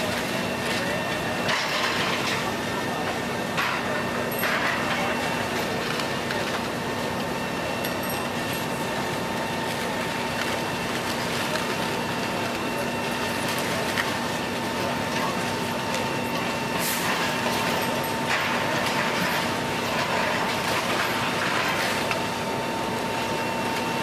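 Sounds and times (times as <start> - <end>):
heavy diesel machinery droning: 0.0 - 24.0.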